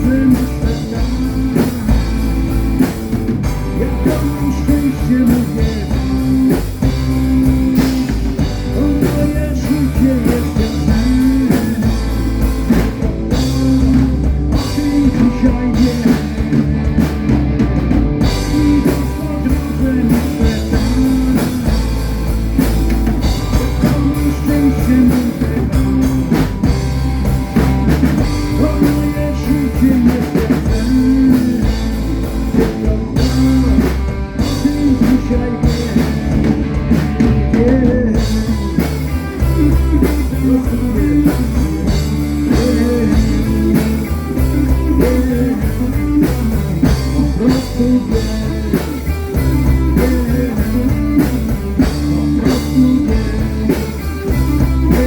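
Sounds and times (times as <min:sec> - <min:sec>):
drum kit beat: 0:00.0 - 0:55.0
live rock band playing: 0:00.0 - 0:55.0.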